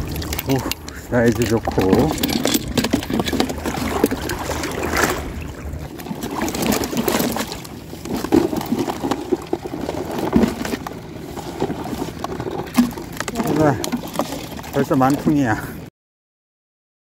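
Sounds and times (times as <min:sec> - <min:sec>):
seawater sloshing and splashing: 0:00.0 - 0:15.9.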